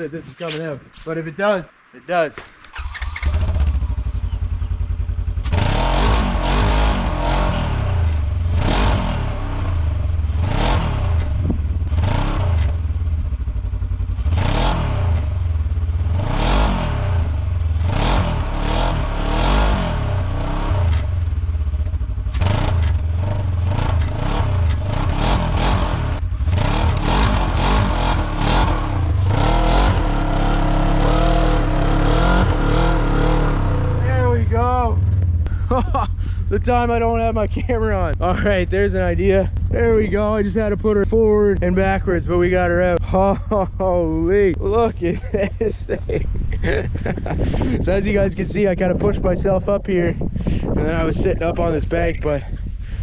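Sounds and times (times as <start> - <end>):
engine revving: 2.6 - 45.8.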